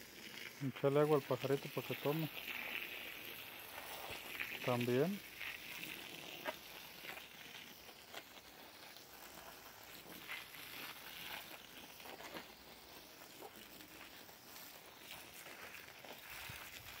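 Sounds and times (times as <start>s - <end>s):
hose nozzle hissing: 0.0s - 17.0s
water pattering on soil and leaves: 0.1s - 17.0s.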